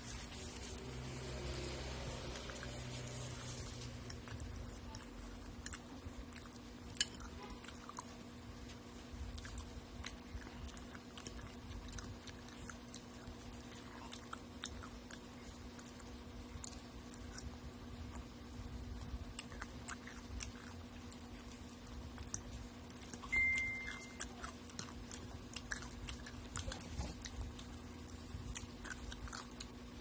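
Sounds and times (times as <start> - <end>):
steady low hum: 0.0 - 30.0
person chewing and biting: 3.8 - 30.0.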